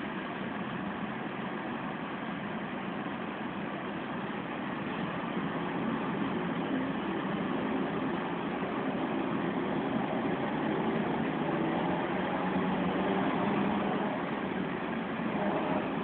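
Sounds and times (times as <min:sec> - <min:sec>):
bus diesel engine howling: 0:00.0 - 0:16.0.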